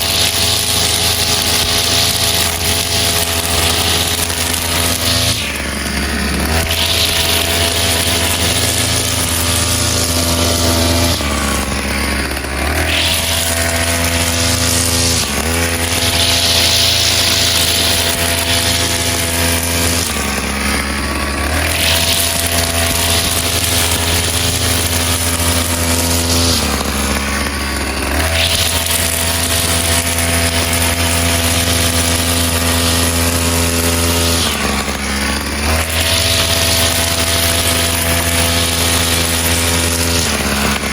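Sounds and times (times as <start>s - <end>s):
brush cutter engine at high speed: 0.0s - 40.9s.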